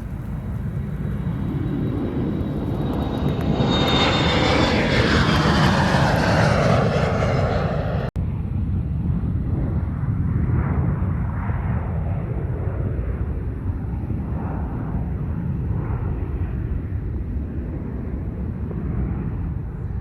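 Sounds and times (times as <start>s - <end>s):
airplane engines passing: 0.0s - 20.0s.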